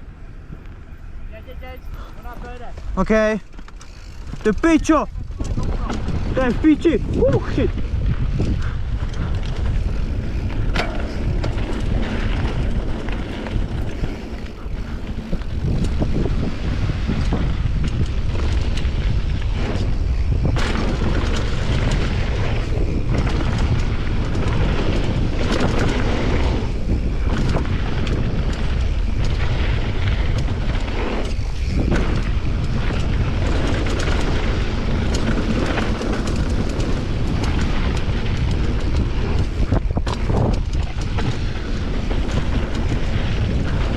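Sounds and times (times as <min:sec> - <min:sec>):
wind rumble on microphone: 0:00.0 - 0:43.9
bike tyres rattling over ground: 0:02.3 - 0:43.9.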